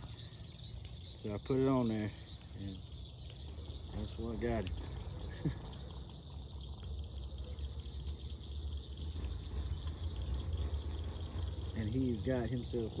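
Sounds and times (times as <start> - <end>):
insects chirping: 0.0 - 13.0
water trickling: 0.0 - 13.0.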